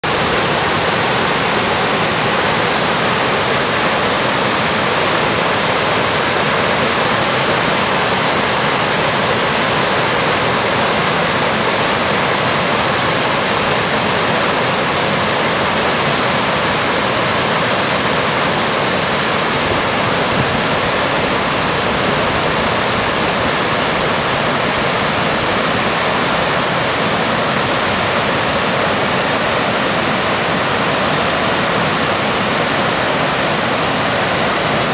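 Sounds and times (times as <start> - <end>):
creek water cascading over rocks: 0.0 - 34.9.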